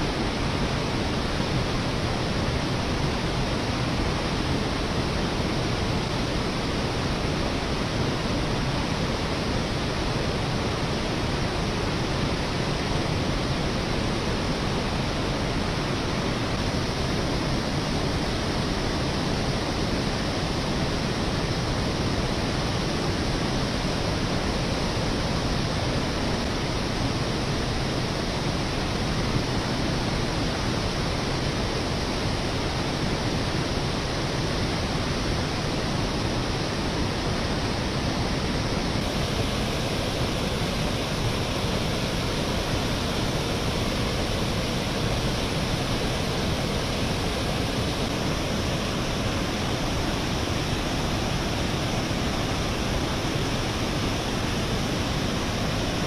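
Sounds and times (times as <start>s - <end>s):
water rushing over a dam: 0.0s - 56.0s.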